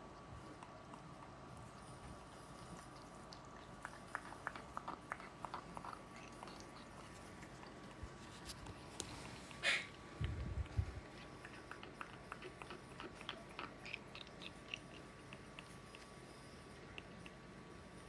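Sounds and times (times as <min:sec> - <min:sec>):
parrot chewing: 0:00.0 - 0:18.0.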